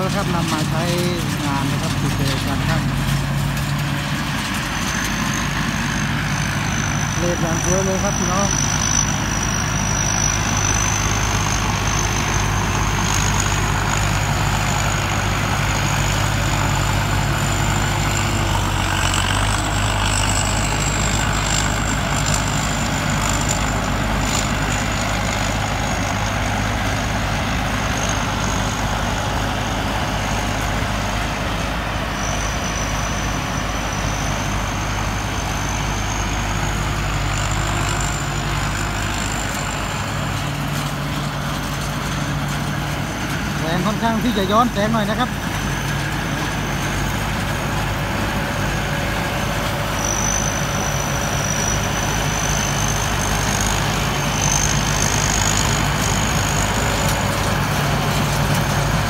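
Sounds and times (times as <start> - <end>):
combine harvester engine drone: 0.0 - 59.0
high whine: 0.0 - 59.0.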